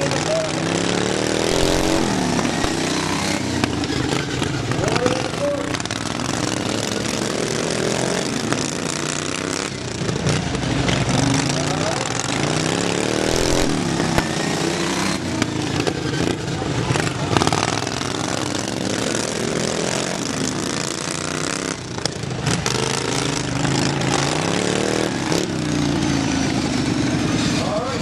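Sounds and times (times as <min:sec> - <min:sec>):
racing lawn mower engines: 0:00.0 - 0:28.0.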